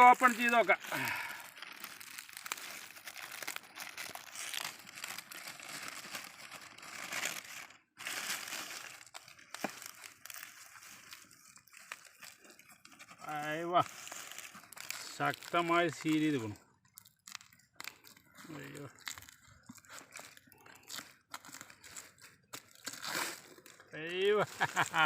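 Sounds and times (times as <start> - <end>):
crinkling rustling of hive covering: 0.0 - 25.0.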